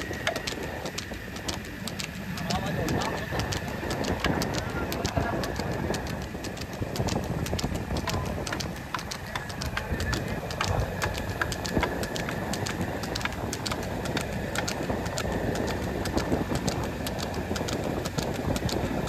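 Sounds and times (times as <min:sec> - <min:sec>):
hooves clattering on road: 0:00.0 - 0:19.0
steady rumbling noise: 0:00.0 - 0:19.0.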